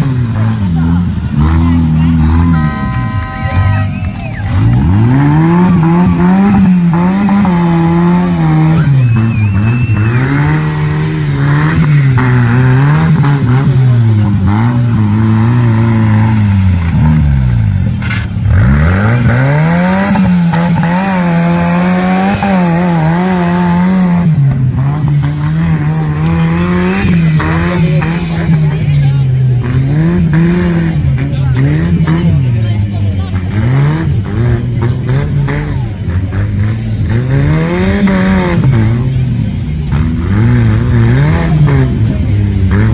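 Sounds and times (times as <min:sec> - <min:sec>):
tractor engine revving: 0:00.0 - 0:42.9.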